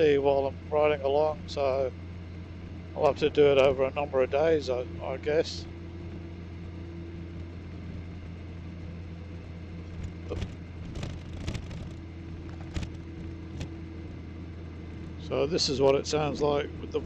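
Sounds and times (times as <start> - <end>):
motorcycle engine drone: 0.0 - 17.0
road noise: 0.0 - 17.0.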